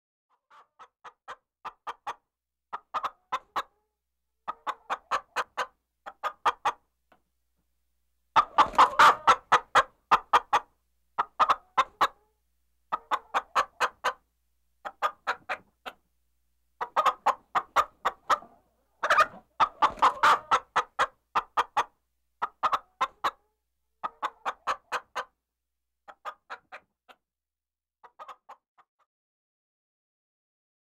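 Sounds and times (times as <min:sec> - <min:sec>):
chickens clucking: 0:00.3 - 0:06.9, 0:08.3 - 0:16.1, 0:16.7 - 0:25.4, 0:26.0 - 0:27.2, 0:28.0 - 0:28.9.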